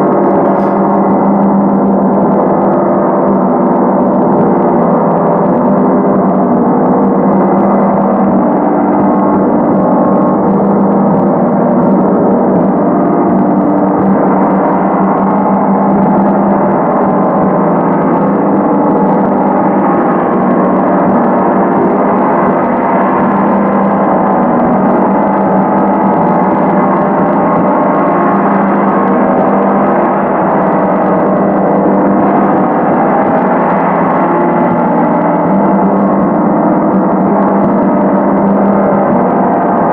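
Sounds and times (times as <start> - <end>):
gong ringing continuously: 0.0 - 39.9.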